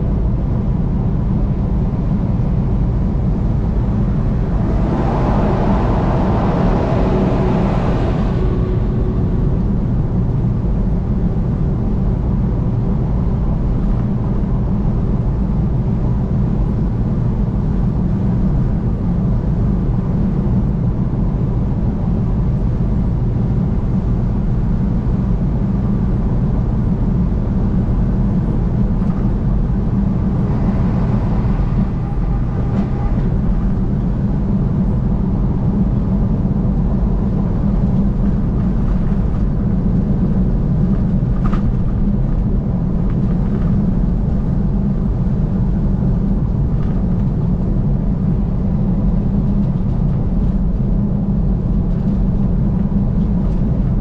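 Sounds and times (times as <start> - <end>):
vehicle engine and tyre rumble: 0.0 - 54.0.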